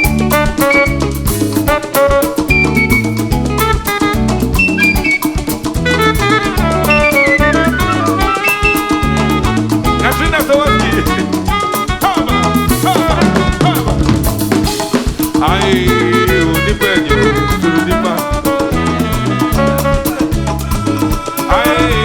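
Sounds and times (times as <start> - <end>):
repeating bass line: 0.0 - 1.8, 2.4 - 22.0
band playing traditional music: 0.0 - 22.0
drums: 0.0 - 22.0.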